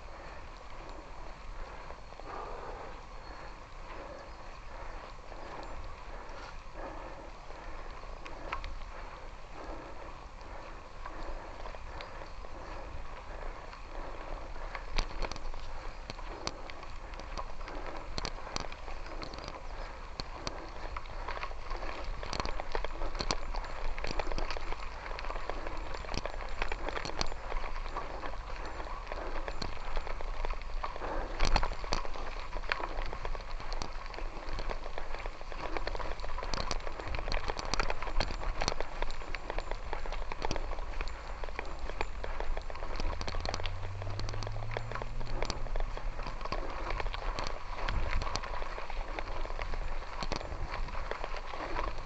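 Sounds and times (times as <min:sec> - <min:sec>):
wheels crunching over gravel: 0:00.0 - 0:52.0.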